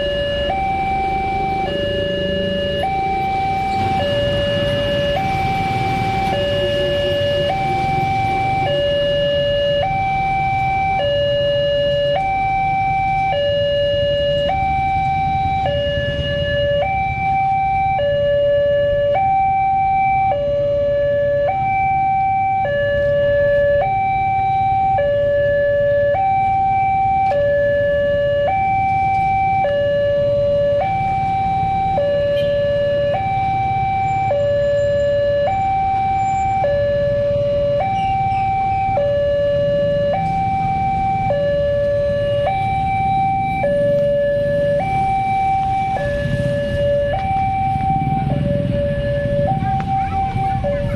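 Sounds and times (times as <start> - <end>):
two-tone electronic crossing alarm: 0.0 - 50.9.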